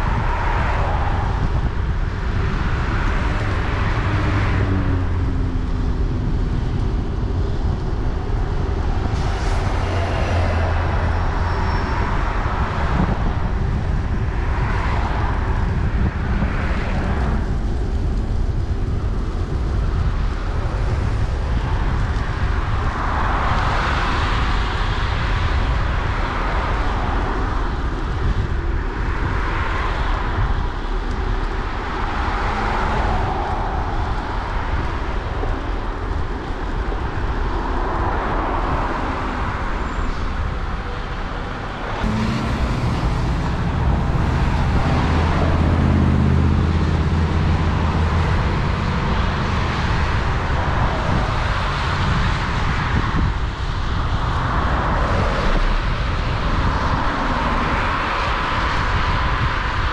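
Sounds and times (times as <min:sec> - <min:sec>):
steady low rumble: 0:00.0 - 0:23.6, 0:30.1 - 0:59.9
low engine hum: 0:00.0 - 0:24.8, 0:30.3 - 0:59.8
car tyres swishing on wet road: 0:02.8 - 0:13.0, 0:14.3 - 0:40.4, 0:41.3 - 0:59.9.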